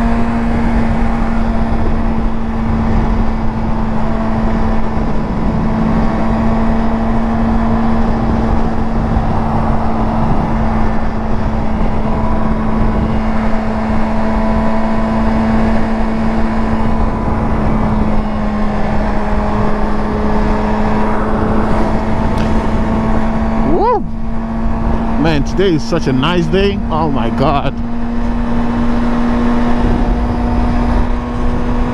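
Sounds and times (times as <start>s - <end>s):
wind and road noise: 0.0s - 31.9s.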